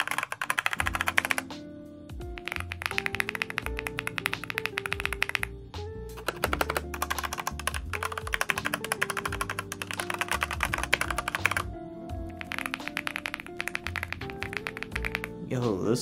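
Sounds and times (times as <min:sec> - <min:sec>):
rapid mechanical keyboard typing: 0:00.0 - 0:01.6, 0:02.4 - 0:05.5, 0:06.2 - 0:15.3.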